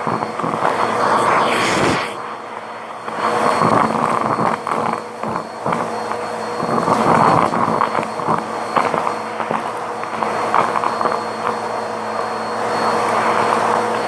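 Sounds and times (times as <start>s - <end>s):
faint motor whine: 0.0s - 14.0s
vacuum cleaner on carpet: 0.0s - 14.0s.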